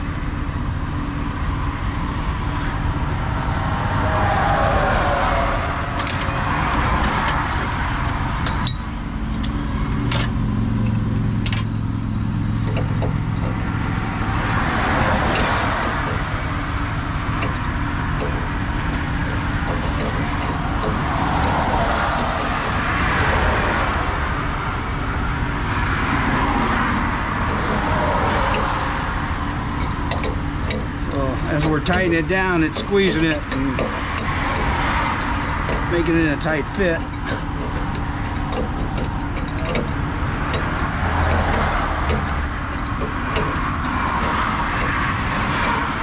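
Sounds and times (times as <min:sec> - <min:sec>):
highway traffic rushing past: 0:00.0 - 0:46.0.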